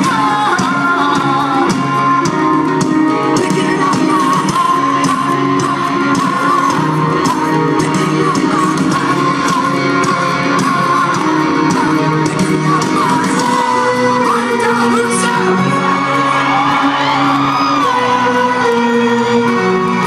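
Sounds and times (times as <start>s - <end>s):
rock band playing: 0.0s - 20.0s
sliding violin melody: 0.1s - 20.0s.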